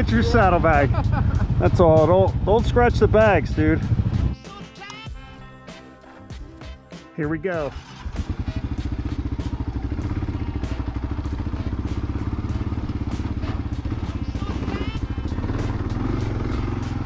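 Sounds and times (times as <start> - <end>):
motorcycle engine pulling away: 0.0 - 4.4, 7.7 - 17.0.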